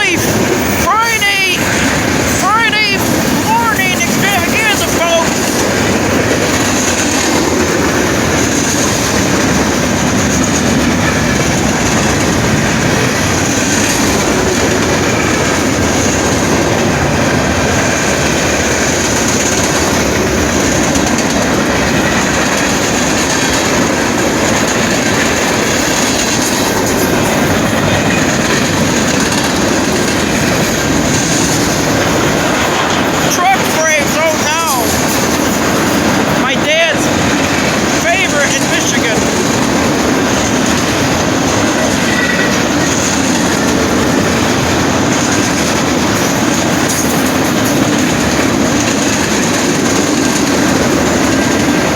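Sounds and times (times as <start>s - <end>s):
train cars rolling past: 0.0s - 51.9s.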